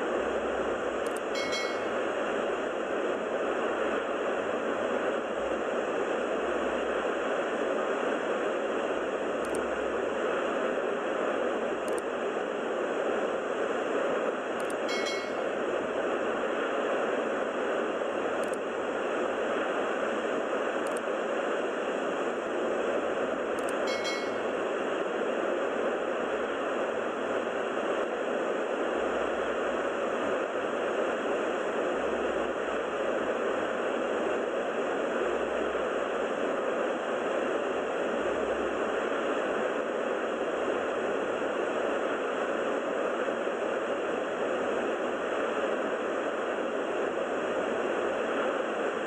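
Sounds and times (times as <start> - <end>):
steady rushing hiss: 0.0 - 49.0.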